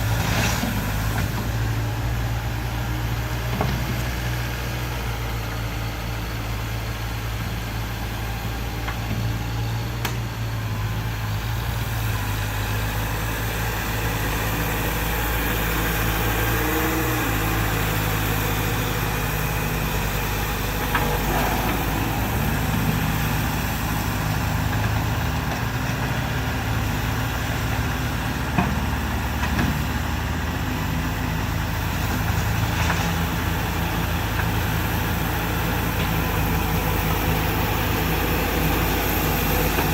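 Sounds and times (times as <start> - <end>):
mini bulldozer engine running: 0.0 - 39.9.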